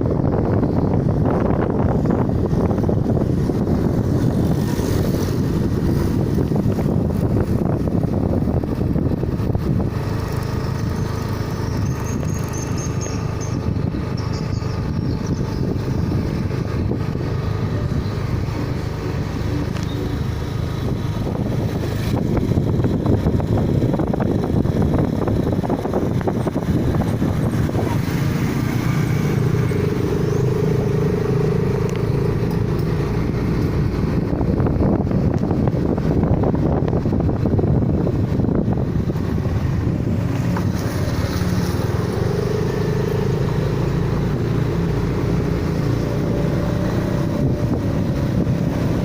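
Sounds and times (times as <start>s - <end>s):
vehicle engine rumble: 0.0s - 49.0s.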